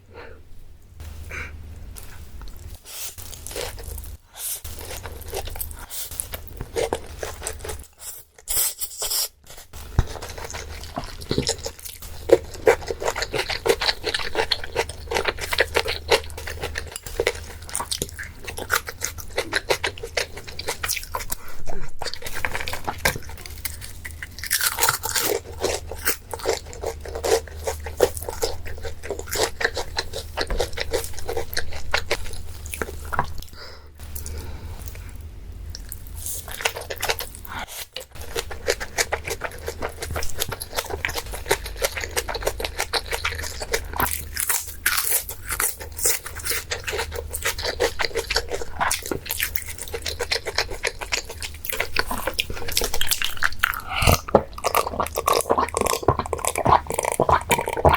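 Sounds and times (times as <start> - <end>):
dog chewing and crunching food: 2.0 - 34.4, 35.7 - 57.9.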